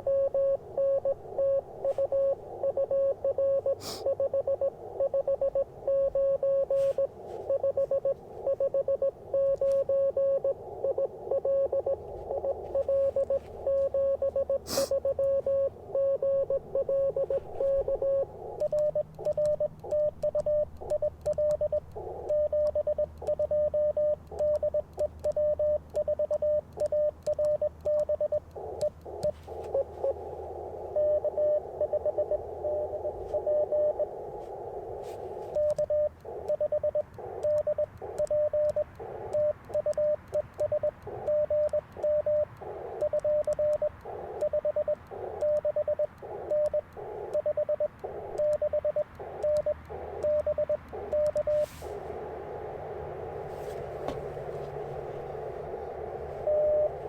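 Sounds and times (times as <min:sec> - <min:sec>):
morse code tone: 0:00.0 - 0:57.0
receiver hiss: 0:00.0 - 0:57.0.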